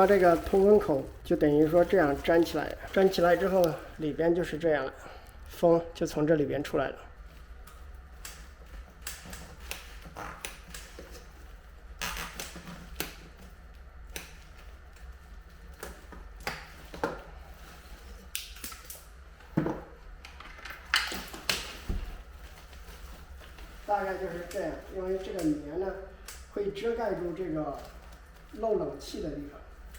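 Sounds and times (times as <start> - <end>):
duct insulation crinkling: 0.0 - 29.9.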